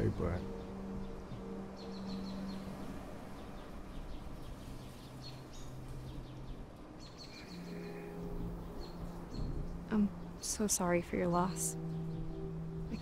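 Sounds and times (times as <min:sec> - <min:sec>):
outdoor ambient noise: 0:00.0 - 0:13.0
small birds chirping: 0:00.0 - 0:13.0.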